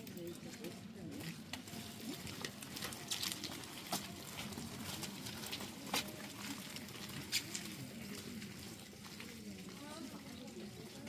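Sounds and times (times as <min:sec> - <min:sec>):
raindrops ticking: 0:00.0 - 0:11.0.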